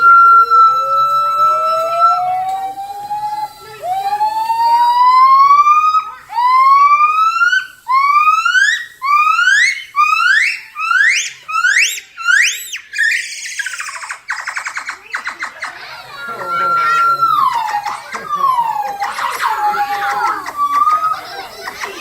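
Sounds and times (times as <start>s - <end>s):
gibbon whooping call: 0.0s - 22.0s.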